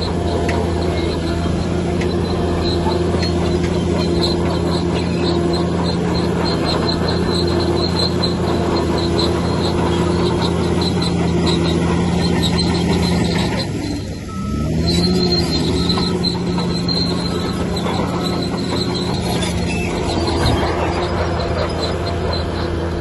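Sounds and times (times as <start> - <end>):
bulldozer engine running: 0.0 - 23.0
crawler tracks squealing: 0.0 - 23.0.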